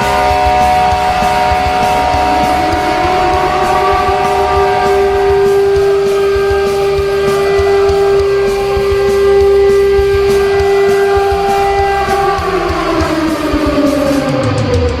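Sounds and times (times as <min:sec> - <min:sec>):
goal horn multi-tone chord: 0:00.0 - 0:14.4
rock song drum beat: 0:00.0 - 0:15.0.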